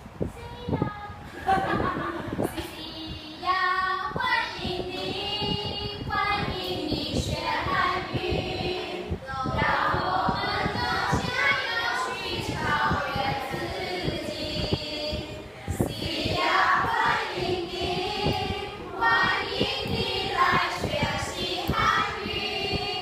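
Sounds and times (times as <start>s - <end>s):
group singing together: 3.9s - 23.0s.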